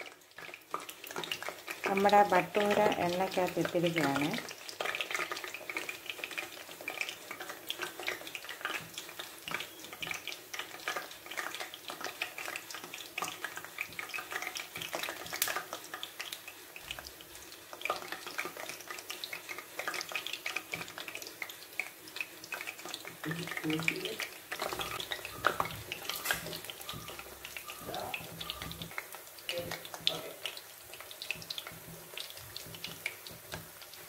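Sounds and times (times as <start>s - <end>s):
bread deep-frying in oil: 0.0s - 34.0s.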